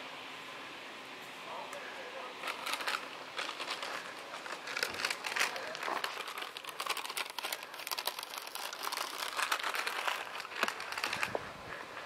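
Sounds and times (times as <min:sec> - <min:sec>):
dry grass rustling and crackling: 0:01.8 - 0:12.0.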